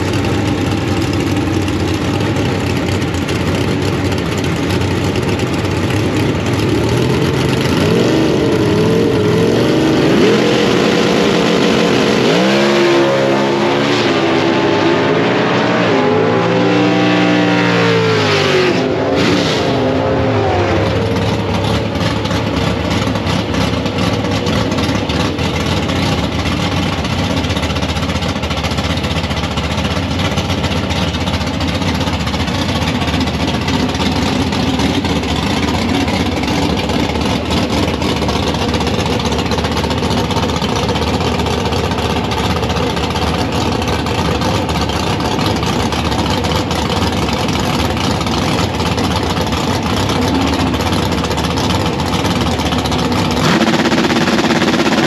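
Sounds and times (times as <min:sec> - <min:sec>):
racing car engines running: 0:00.0 - 0:55.0.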